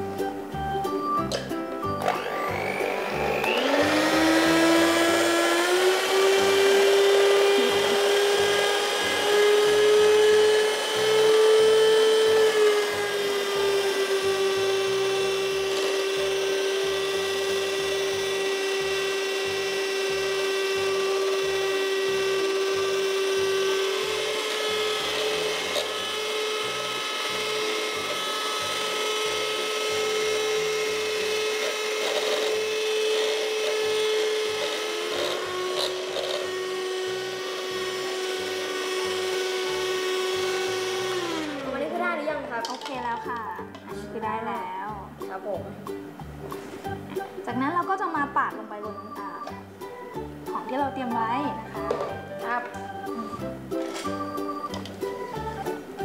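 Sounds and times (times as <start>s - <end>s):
hand mixer motor whining: 1.3s - 44.0s, 48.2s - 56.0s.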